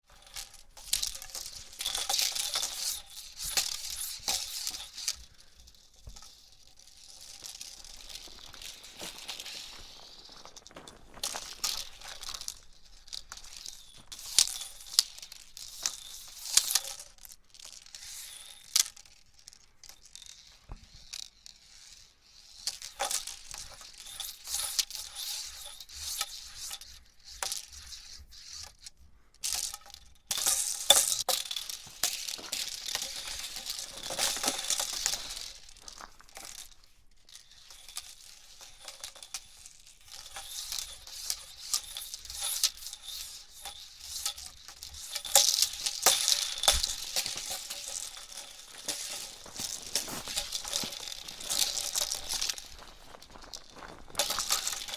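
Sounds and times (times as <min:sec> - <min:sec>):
hula hoop rattling swish: 0:00.0 - 0:19.2, 0:19.8 - 0:54.9.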